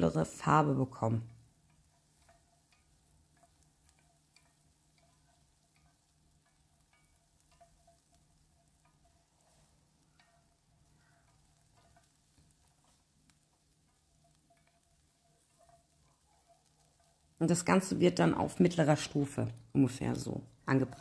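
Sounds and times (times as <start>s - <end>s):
carrots sizzling in butter: 0.0s - 21.0s.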